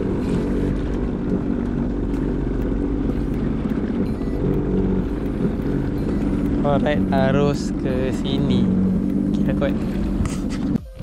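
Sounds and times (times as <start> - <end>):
jet ski engine running: 0.0 - 11.0.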